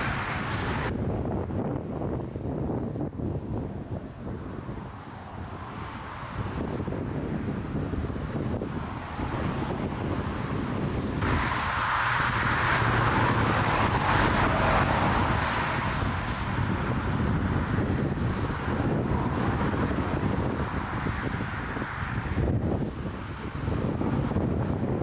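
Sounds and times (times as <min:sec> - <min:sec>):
loud even rushing noise: 0:00.0 - 0:02.2, 0:02.9 - 0:25.0
wind buffeting microphone: 0:00.0 - 0:25.0.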